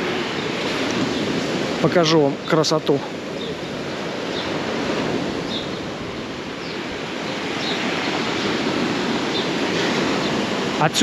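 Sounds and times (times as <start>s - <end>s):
waves breaking on pebble beach: 0.0s - 11.0s.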